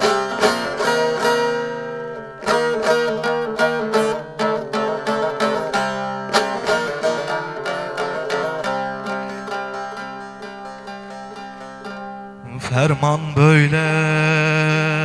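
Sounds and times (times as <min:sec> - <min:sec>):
long-necked lute plucked notes: 0:00.0 - 0:15.0.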